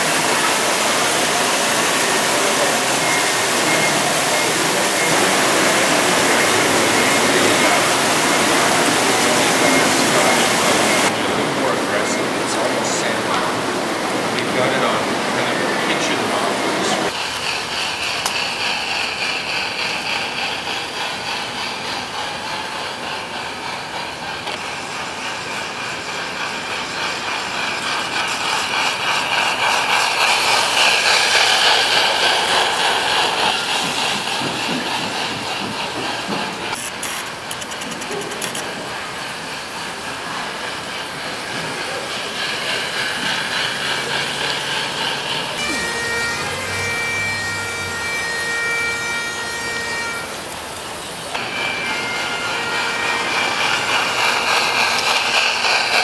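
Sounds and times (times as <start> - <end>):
model train wheels on rails: 0.0 - 56.0.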